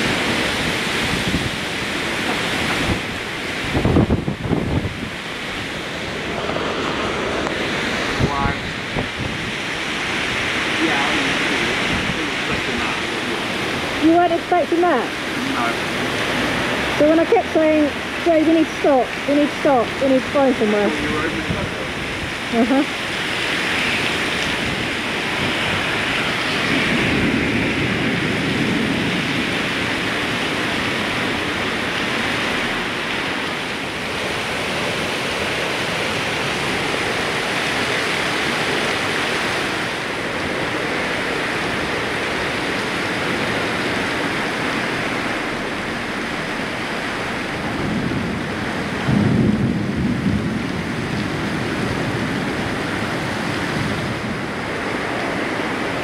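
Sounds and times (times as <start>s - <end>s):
heavy rain: 0.0s - 56.0s
thunder rumble: 0.0s - 56.0s.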